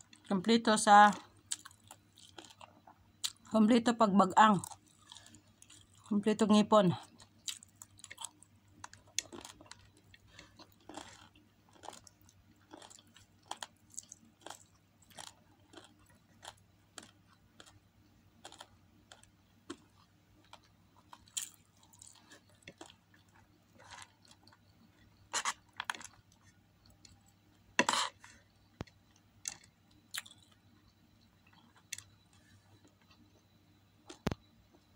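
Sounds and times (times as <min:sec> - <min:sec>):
close-up chewing: 0:01.2 - 0:03.5, 0:04.6 - 0:06.1, 0:07.0 - 0:27.9, 0:28.8 - 0:33.3.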